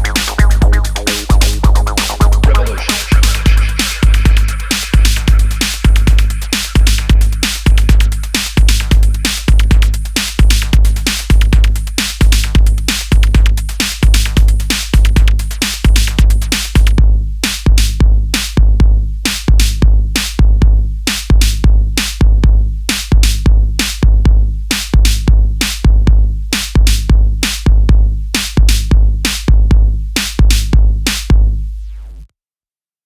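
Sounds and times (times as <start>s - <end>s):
drum machine beat: 0.0s - 32.1s
deep bass line: 0.0s - 32.3s.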